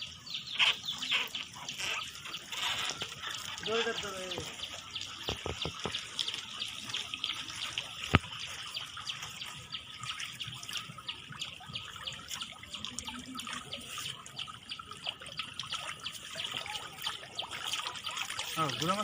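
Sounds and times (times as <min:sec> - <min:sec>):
water splashing and dripping: 0:00.0 - 0:19.0.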